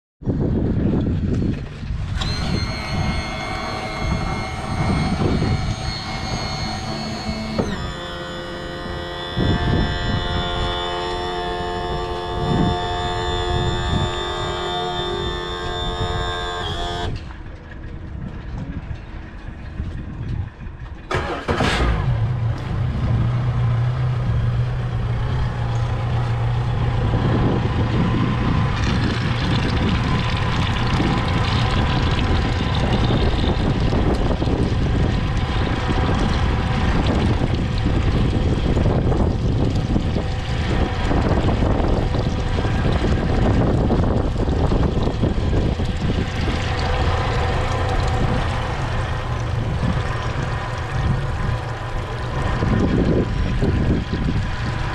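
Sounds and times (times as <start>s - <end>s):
boat engine starting and running: 0.3s - 54.9s.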